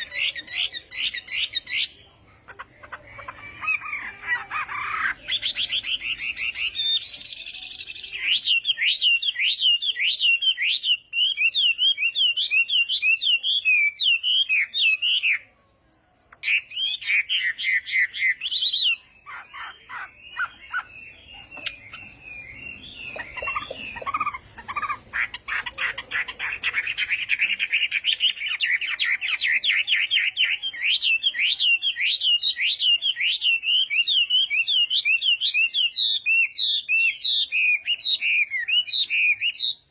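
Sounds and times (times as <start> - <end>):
bird singing whistled trills: 5.2 - 25.9, 26.5 - 39.9.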